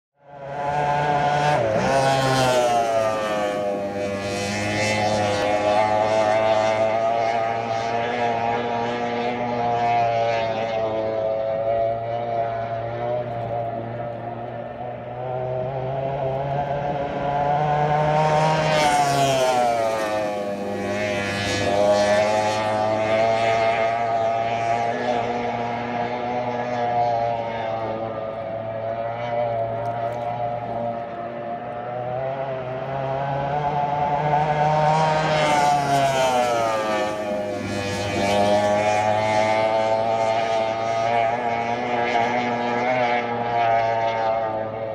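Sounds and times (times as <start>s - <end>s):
racing boat engine: 0.2s - 44.9s.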